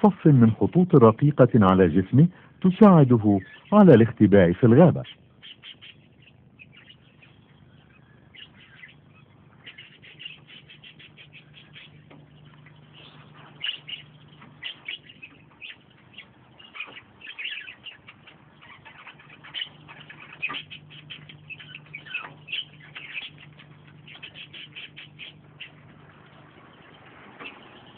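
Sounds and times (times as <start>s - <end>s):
birds chirping: 0.0s - 27.9s
faint low hum: 0.0s - 27.9s.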